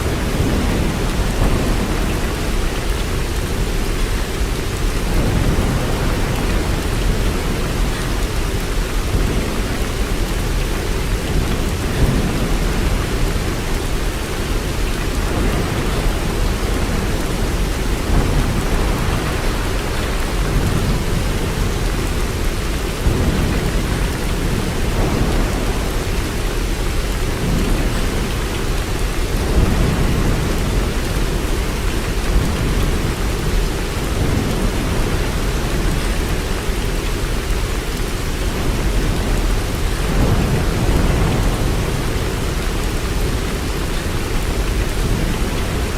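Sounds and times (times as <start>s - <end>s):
steady rainfall: 0.0s - 45.9s.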